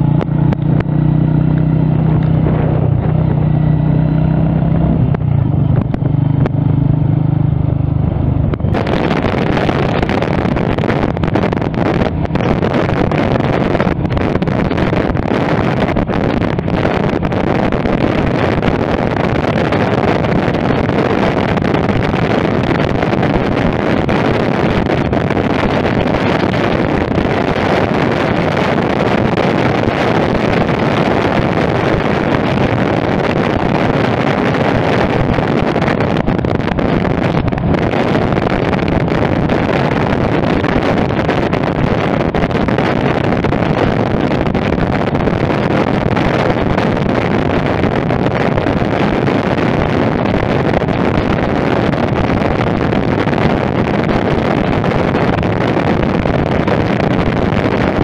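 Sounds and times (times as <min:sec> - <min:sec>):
motorcycle running and road noise: 0:00.0 - 0:58.0
wind rush on microphone: 0:00.0 - 0:58.0.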